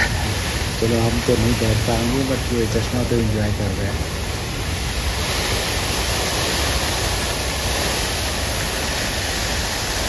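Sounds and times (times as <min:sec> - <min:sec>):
fountain water splashing: 0:00.0 - 0:10.0.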